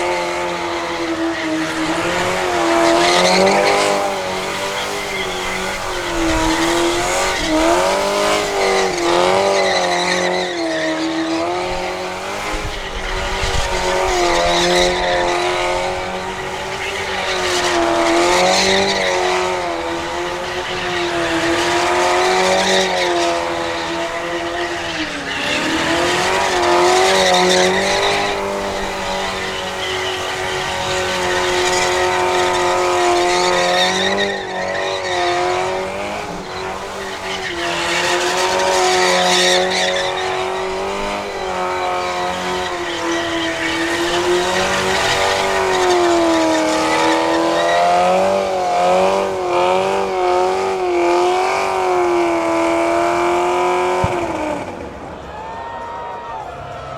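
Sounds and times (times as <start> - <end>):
car engine at high revs: 0.0 - 55.3
spinning tyres squealing: 0.0 - 56.9.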